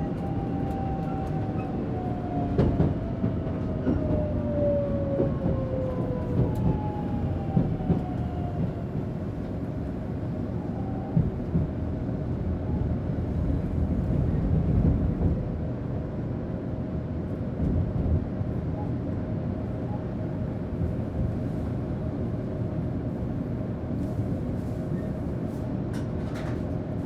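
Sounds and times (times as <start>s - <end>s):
train rumble inside passenger car: 0.0s - 27.0s.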